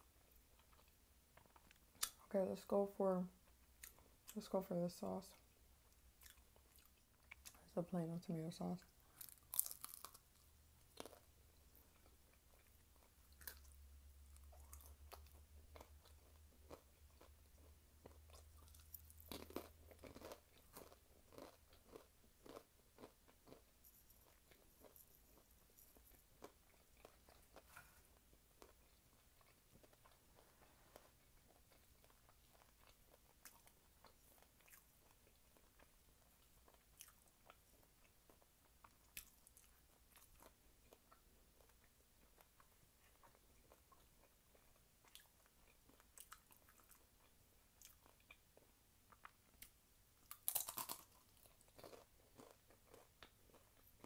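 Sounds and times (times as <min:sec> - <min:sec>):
crunchy biting and chewing: 0:09.1 - 0:30.4, 0:31.1 - 0:54.0.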